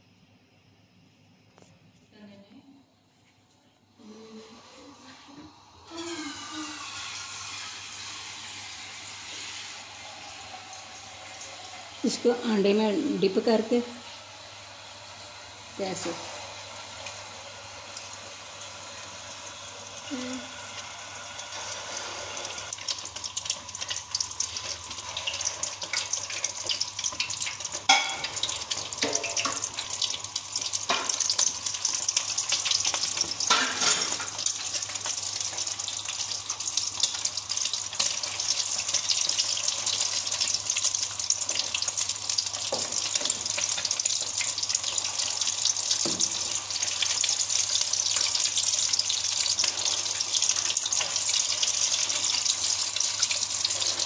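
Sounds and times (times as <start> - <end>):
deep-frying sizzle in oil: 5.3 - 54.0.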